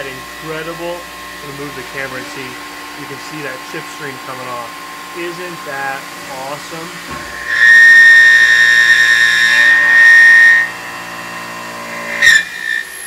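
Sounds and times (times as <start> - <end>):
high-pitched milling squeal: 0.0 - 13.0
machining hum: 0.0 - 13.0.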